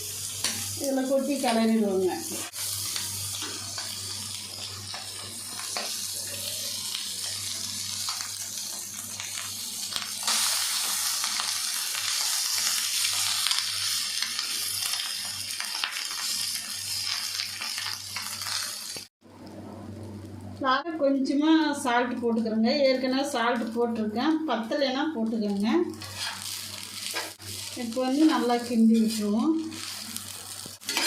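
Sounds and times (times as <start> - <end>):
rice sizzling in a pan: 0.0 - 19.1, 25.2 - 31.0.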